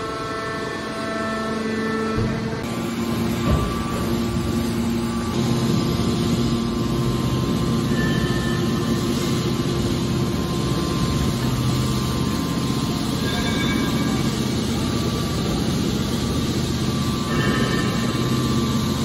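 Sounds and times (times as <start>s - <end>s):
hydraulic pump hum: 0.0s - 19.0s.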